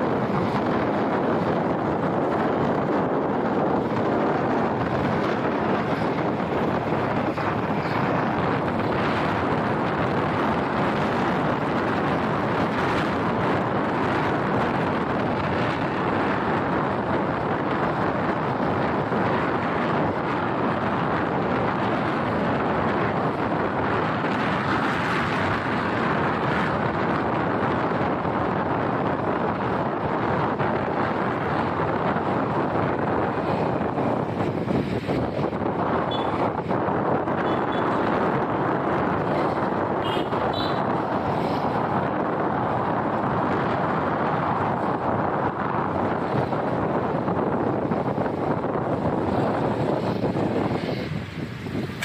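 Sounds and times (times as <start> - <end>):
motorbike road and engine noise: 0.0 - 52.0
wind rush on microphone: 0.0 - 52.0.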